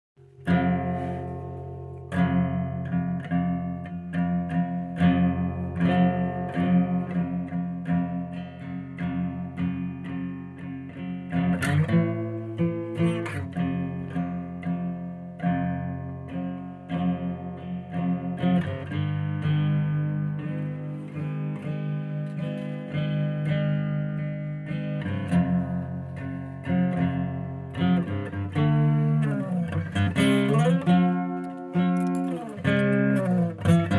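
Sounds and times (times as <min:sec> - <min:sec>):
guitar plucked notes: 0:00.2 - 0:33.9.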